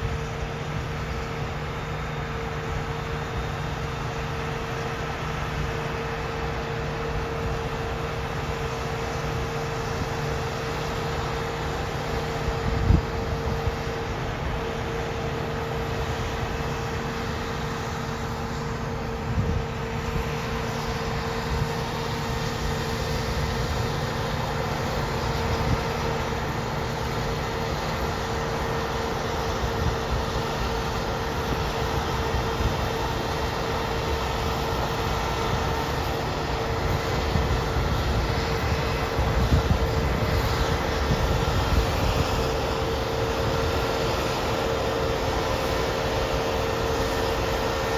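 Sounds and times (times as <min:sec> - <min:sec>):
combine harvester droning: 0:00.0 - 0:47.9
steady whine: 0:00.0 - 0:47.9.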